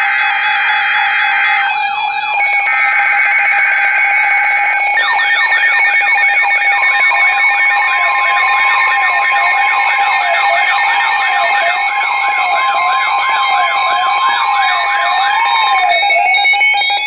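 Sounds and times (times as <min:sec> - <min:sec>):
falling alarm chirps: 0:00.0 - 0:17.0
warbling alarm tones: 0:00.0 - 0:17.0
weather radio alarm steady tone: 0:00.0 - 0:17.0.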